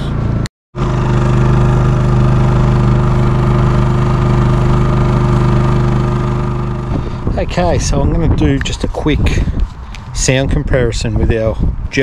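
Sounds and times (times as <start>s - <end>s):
generator engine running: 0.2s - 9.8s.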